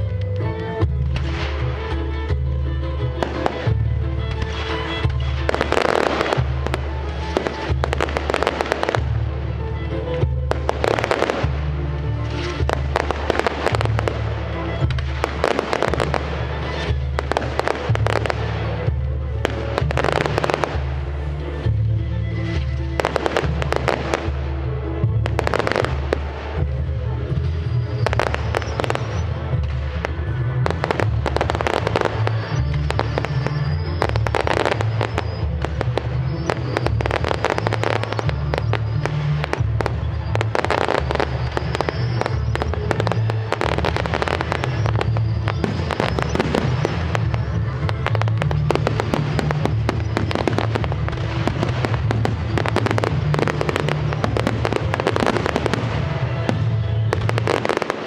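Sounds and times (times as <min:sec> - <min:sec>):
fireworks bangs and crackles: 0:00.0 - 0:58.0
music playing: 0:00.0 - 0:58.0.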